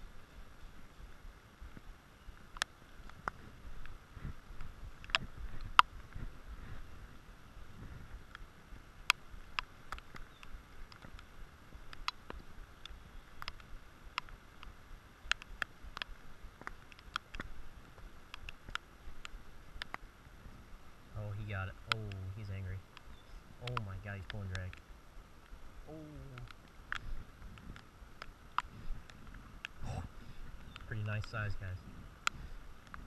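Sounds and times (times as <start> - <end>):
faint steady hiss: 0.0 - 33.0
raindrops ticking on camera housing: 0.0 - 33.0.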